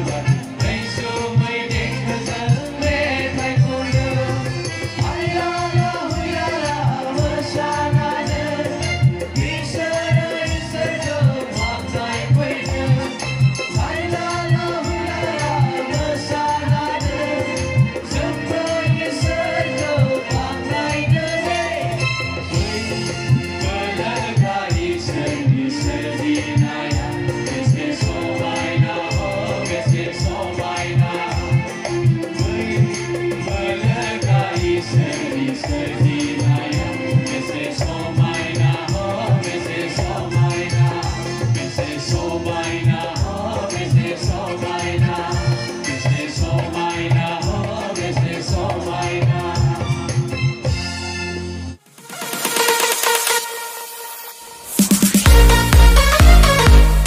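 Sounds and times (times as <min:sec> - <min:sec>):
group singing: 0:00.0 - 0:50.4
steady drum beat: 0:00.0 - 0:51.0, 0:54.6 - 0:57.0.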